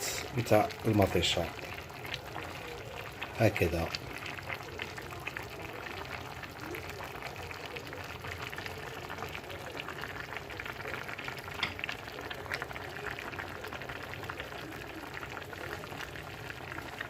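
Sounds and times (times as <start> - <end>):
stew bubbling and crackling: 0.0 - 17.0.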